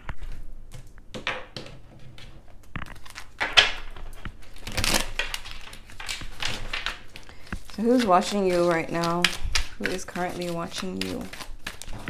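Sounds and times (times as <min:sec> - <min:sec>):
cards tapping and flicking: 0:00.0 - 0:12.0
cards shuffling: 0:02.2 - 0:12.0.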